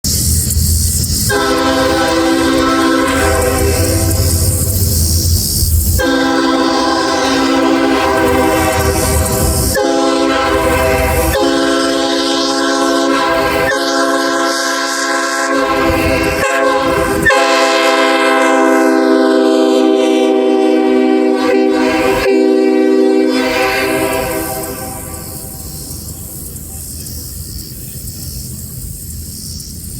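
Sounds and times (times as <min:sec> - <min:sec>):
train horn chord: 0:01.3 - 0:25.6.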